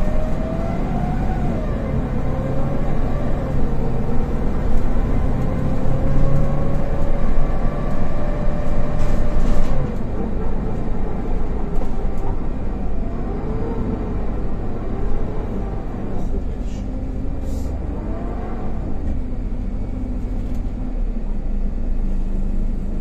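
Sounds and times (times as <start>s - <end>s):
bus engine rumble: 0.0s - 23.0s.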